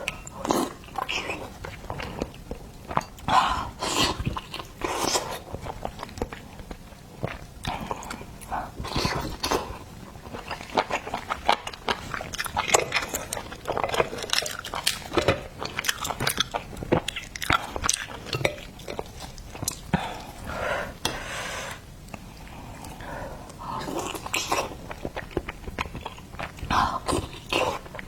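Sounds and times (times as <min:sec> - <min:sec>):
wet chewing with mouth clicks: 0:00.0 - 0:20.5, 0:22.0 - 0:28.0.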